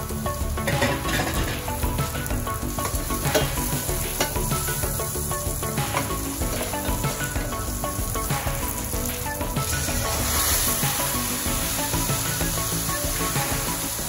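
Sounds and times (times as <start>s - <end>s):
vegetables sizzling in a pot: 0.0s - 14.0s.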